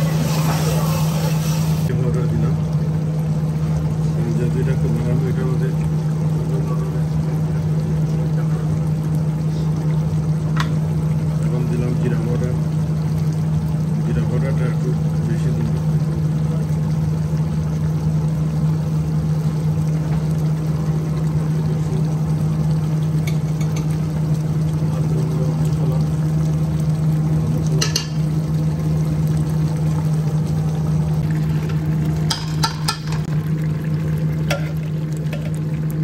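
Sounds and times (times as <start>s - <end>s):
low kitchen drone: 0.0s - 36.0s
oil sizzling in a pot: 0.0s - 36.0s.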